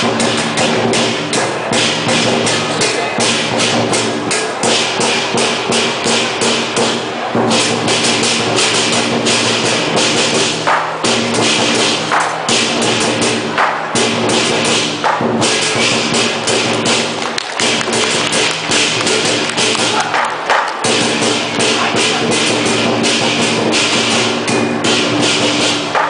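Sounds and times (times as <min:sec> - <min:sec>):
drum: 0:00.0 - 0:26.0.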